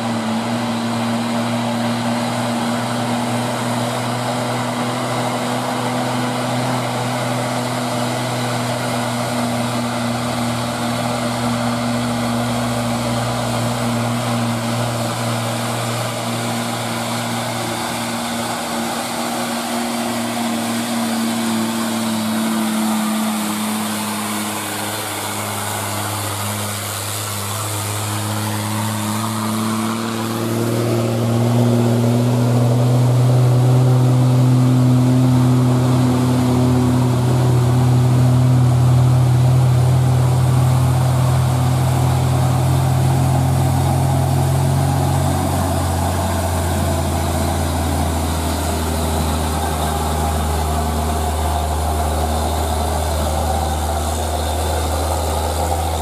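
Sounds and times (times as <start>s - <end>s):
dump truck diesel engines under load: 0.0s - 56.0s.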